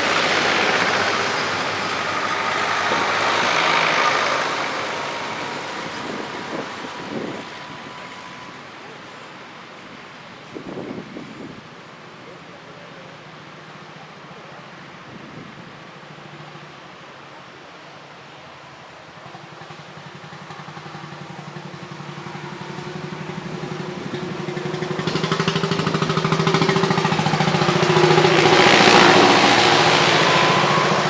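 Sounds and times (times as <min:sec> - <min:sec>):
old tractor engine running: 0:00.0 - 0:11.0, 0:13.1 - 0:31.0.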